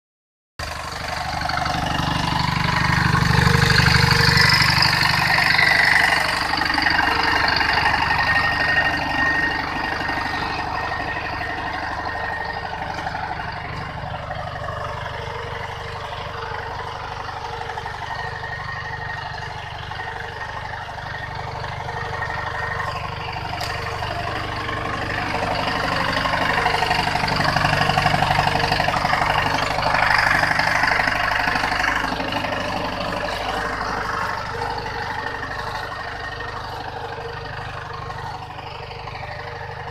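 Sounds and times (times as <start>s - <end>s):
tractor engine running: 0.6s - 39.9s.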